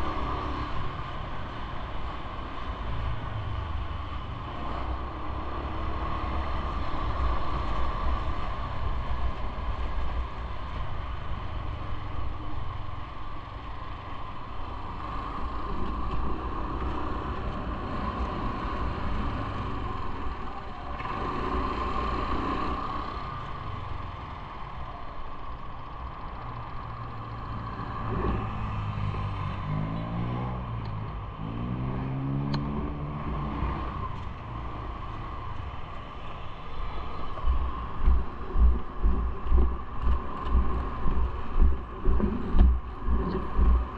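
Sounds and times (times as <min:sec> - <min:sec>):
road traffic rumble and hiss: 0:00.0 - 0:43.9
engine speeding up: 0:03.2 - 0:09.6, 0:14.8 - 0:43.9.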